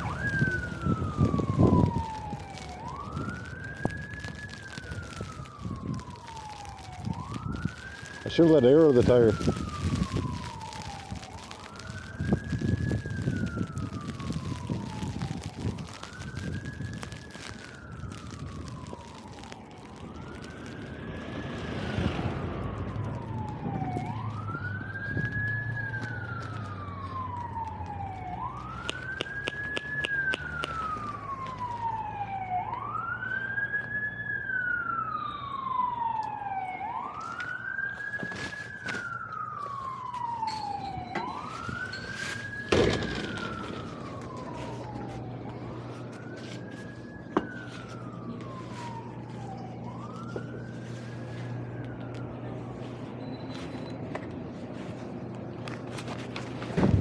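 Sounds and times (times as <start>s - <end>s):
emergency siren wailing: 0.0s - 57.0s.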